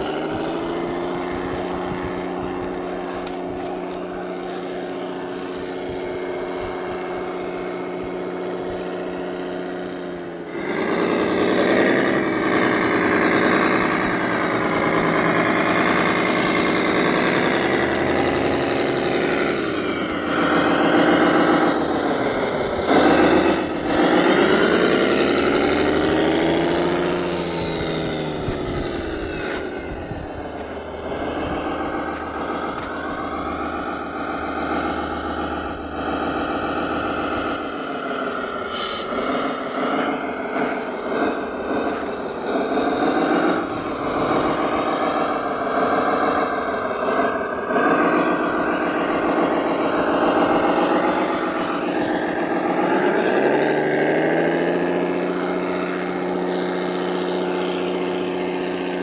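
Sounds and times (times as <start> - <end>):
model vehicle engines running: 0.0 - 59.0.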